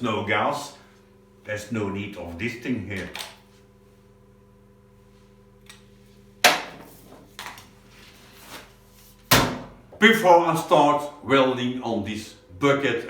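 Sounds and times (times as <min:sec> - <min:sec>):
welder electrical hum: 0:00.0 - 0:13.0.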